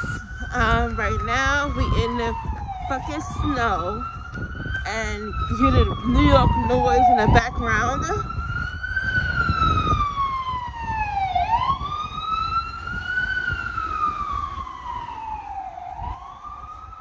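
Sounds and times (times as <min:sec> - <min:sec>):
emergency siren wailing: 0:00.0 - 0:17.0
street noise rumble: 0:00.0 - 0:17.0.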